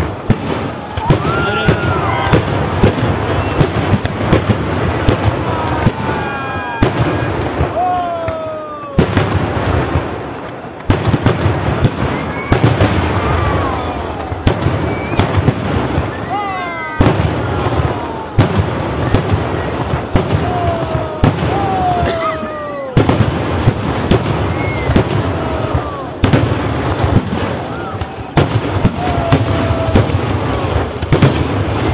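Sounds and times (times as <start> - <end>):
fireworks bangs and cracks: 0.0 - 31.9.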